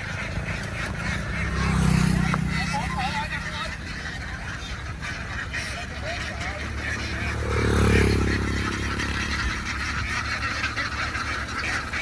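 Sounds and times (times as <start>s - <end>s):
ducks quacking: 0.0s - 12.0s
engine rumbling: 0.0s - 12.0s.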